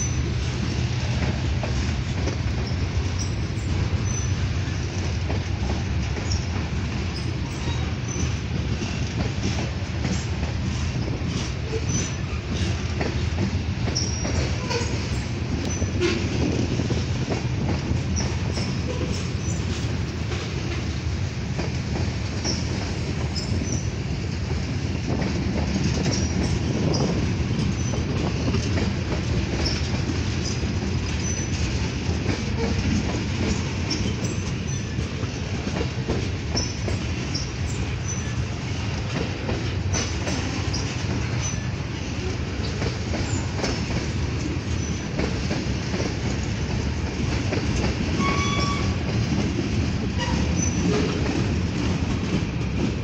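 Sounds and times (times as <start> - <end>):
clacks from train trucks: 0.0 - 53.0
steel wheels rumbling on rails: 0.0 - 53.0.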